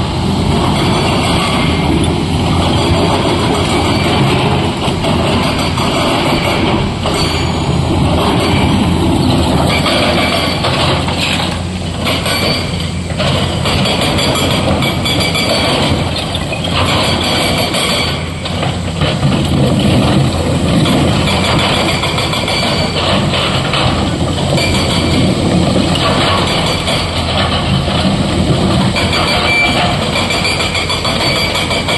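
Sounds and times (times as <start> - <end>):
diesel engines running: 0.0 - 31.9
excavator bucket scraping stone: 0.5 - 31.9.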